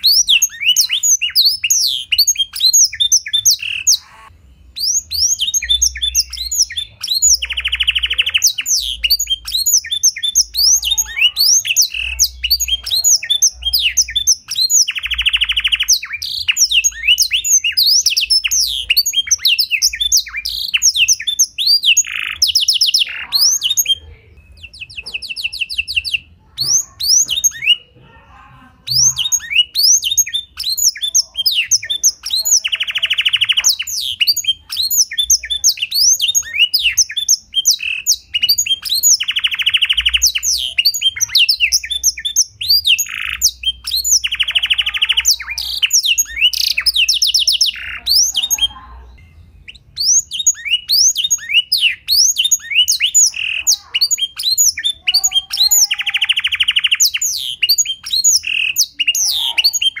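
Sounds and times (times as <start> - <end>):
canary singing high chirps: 0.0 - 60.0.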